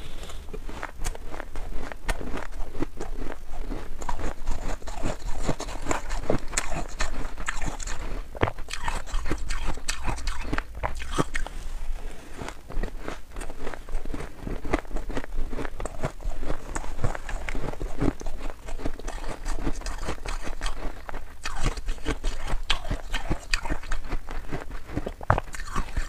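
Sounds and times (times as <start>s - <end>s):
chewing crunchy ice: 0.0s - 26.0s.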